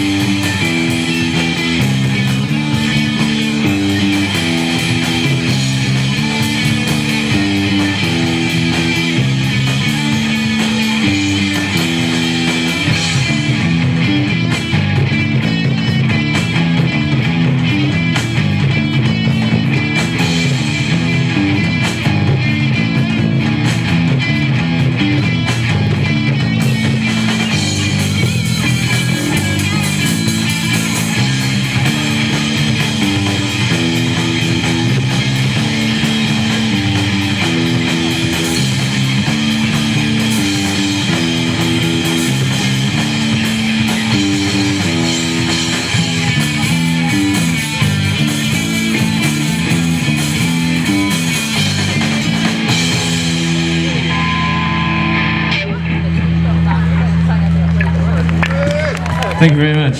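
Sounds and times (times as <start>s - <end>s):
low guitar riff: 0.0s - 58.4s
drum kit: 0.0s - 59.9s
loud electric guitars: 0.0s - 59.9s.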